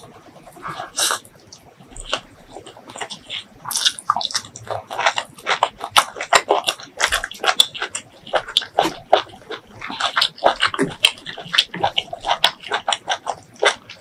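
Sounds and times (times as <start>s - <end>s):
wet chewing with mouth smacks: 0.0s - 14.0s.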